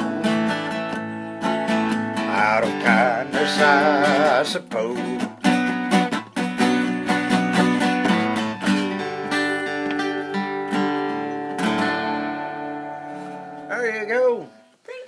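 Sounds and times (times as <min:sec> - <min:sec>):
acoustic guitar strumming: 0:00.0 - 0:14.8.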